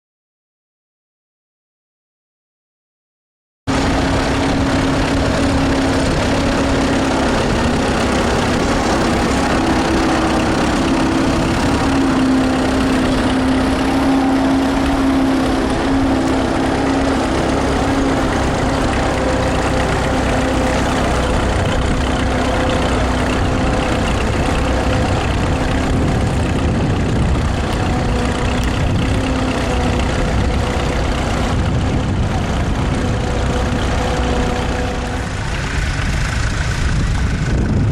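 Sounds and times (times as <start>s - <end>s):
tractor engine droning: 3.7s - 37.9s.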